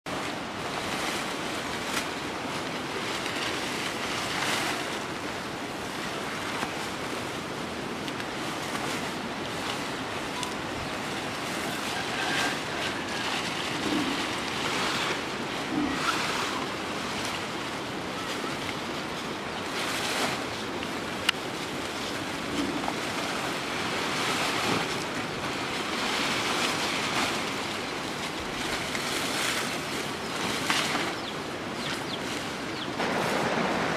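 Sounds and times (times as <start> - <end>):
leafy branches rustling: 0.1 - 33.9.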